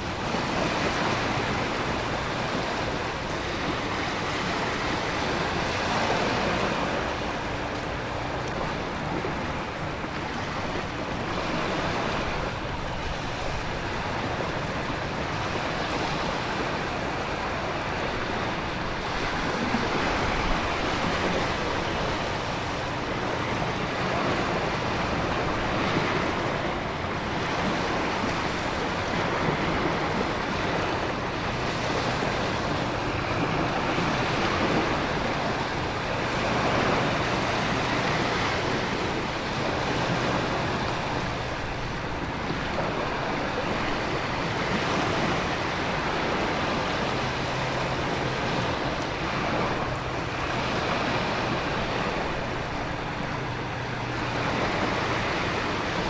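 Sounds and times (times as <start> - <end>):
ocean surf: 0.0 - 56.0
wind: 0.0 - 56.0.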